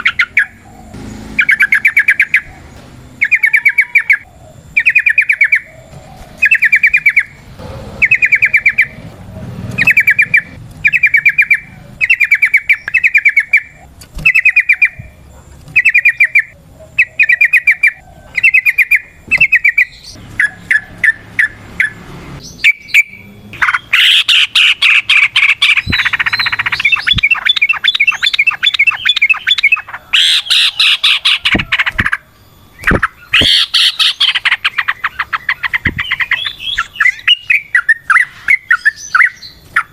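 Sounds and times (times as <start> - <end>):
bird singing bubbling phrases: 0.0 - 7.4, 8.0 - 9.0, 9.8 - 21.9, 22.5 - 39.9
bird rapid chattering song: 0.0 - 39.9.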